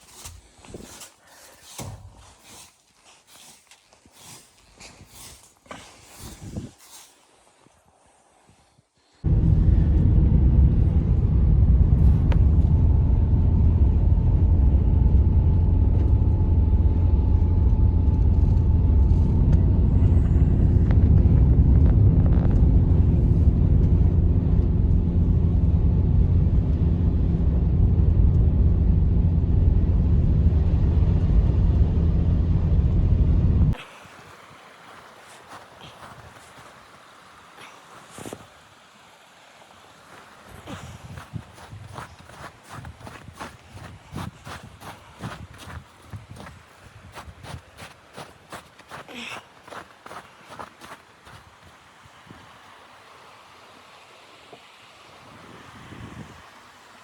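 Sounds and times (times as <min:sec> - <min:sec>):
blizzard wind buffeting microphone: 0:04.1 - 0:52.9, 0:54.8 - 0:57.0.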